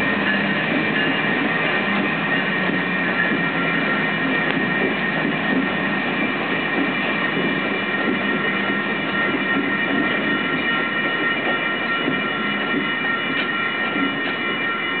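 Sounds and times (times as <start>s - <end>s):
high-pitched ringing tone: 0.0s - 15.0s
train wheels rumbling over rails: 0.0s - 15.0s.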